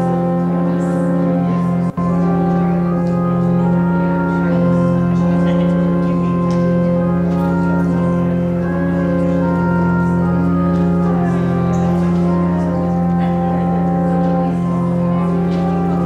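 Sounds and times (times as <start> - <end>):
church organ chords: 0.0 - 16.0.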